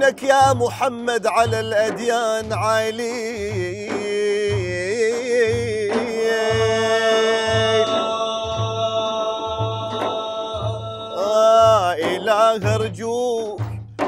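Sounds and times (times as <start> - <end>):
men singing devotional melody: 0.0 - 13.8
frame drums beating: 0.0 - 14.0.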